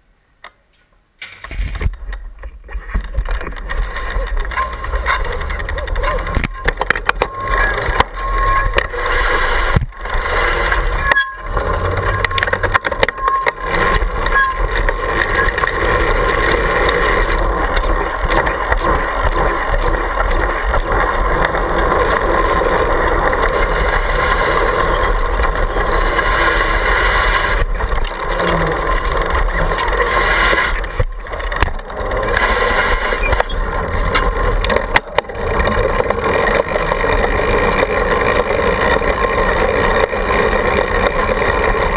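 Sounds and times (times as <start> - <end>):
bike tyres rumbling on pavement: 1.3 - 41.9.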